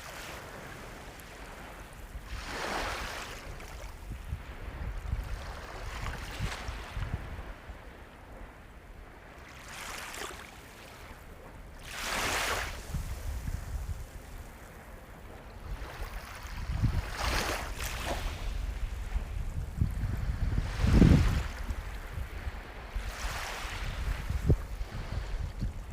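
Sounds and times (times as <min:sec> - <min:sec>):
sea waves breaking: 0:00.0 - 0:07.7, 0:09.2 - 0:25.9.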